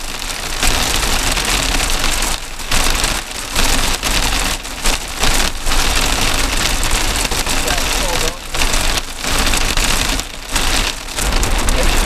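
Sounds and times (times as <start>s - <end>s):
heavy rain drumming on vehicle roof: 0.0s - 12.0s.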